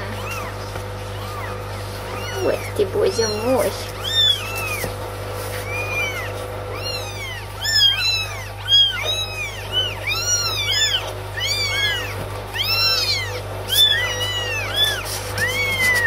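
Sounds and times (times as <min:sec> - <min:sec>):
kittens mewing: 0:00.0 - 0:16.0.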